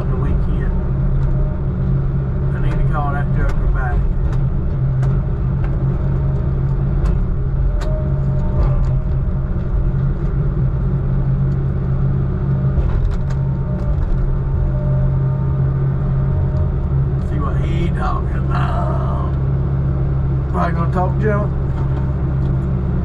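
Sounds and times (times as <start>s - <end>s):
heavy diesel engine droning: 0.0s - 23.0s.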